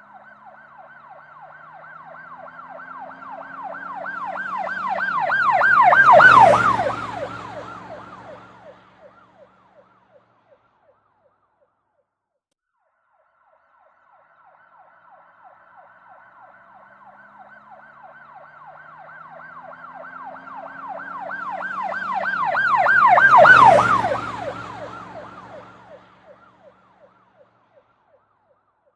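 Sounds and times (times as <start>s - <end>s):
police siren yelping: 0.0s - 10.2s, 13.8s - 27.5s
vehicle engine and road noise: 0.0s - 11.1s, 13.7s - 28.6s.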